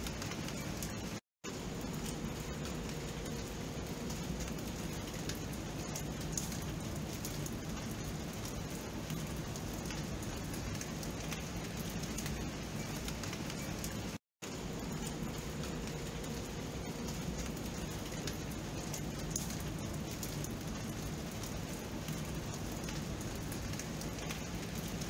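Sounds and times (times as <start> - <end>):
rain drop ticks: 0.0 - 25.0
steady rain falling: 0.0 - 25.0.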